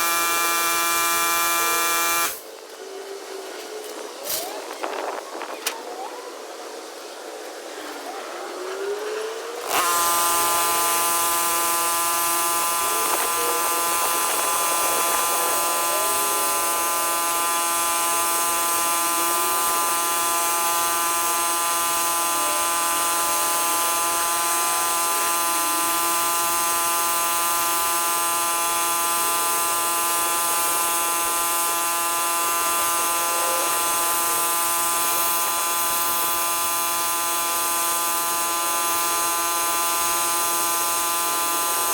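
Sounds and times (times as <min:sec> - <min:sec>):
pressure washer running: 0:00.0 - 0:02.4, 0:09.0 - 0:41.9.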